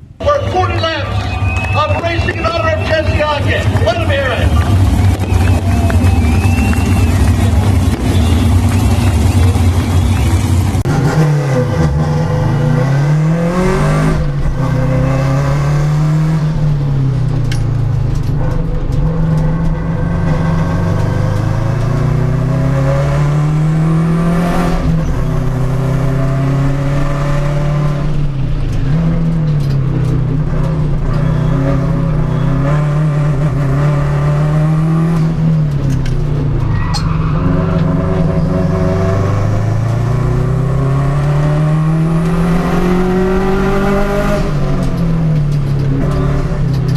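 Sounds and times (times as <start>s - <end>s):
race car engine at high revs: 1.4s - 46.9s.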